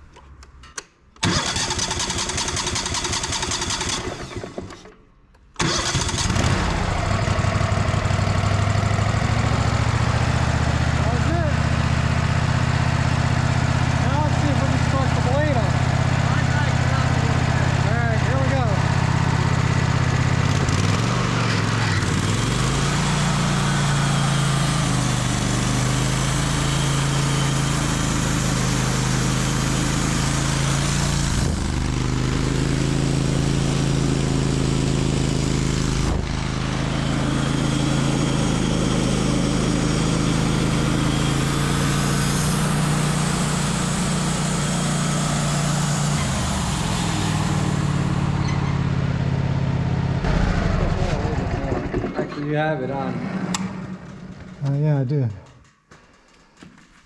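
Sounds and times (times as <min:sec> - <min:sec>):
sawmill gas engine running: 0:01.2 - 0:05.0, 0:05.6 - 0:55.0.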